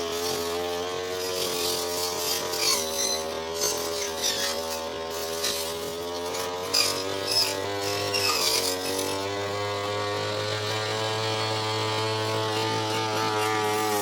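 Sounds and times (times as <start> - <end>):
brush cutter engine running: 0.0 - 14.0
cutting head swishing grass: 0.0 - 14.0.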